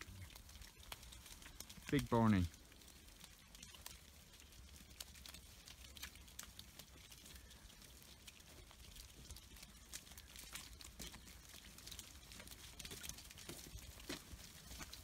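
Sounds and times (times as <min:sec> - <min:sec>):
sheep hooves on wet tarmac: 0:00.0 - 0:15.0.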